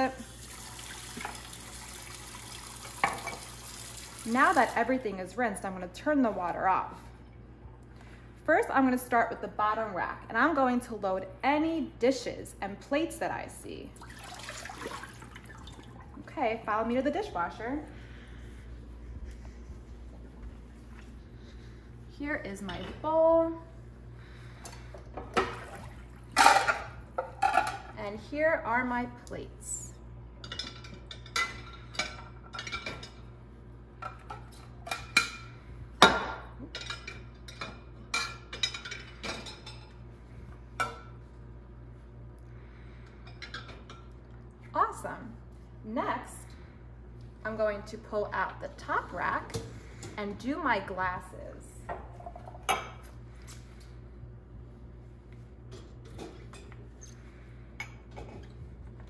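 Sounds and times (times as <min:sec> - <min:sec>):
steady low hum: 0:04.2 - 0:59.0.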